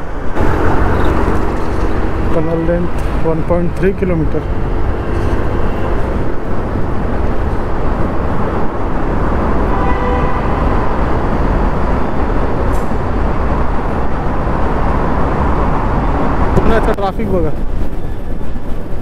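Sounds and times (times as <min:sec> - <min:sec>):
scooter road and engine noise: 0:00.0 - 0:19.0
wind rumble on microphone: 0:00.0 - 0:19.0.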